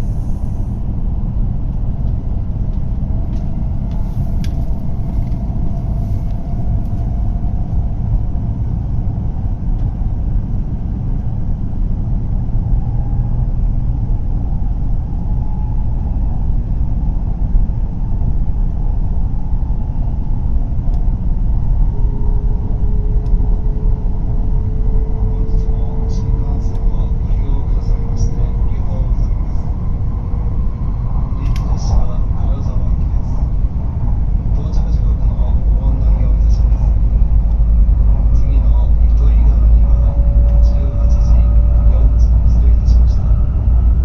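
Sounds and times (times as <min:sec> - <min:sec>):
train cabin low rumble: 0:00.0 - 0:44.0.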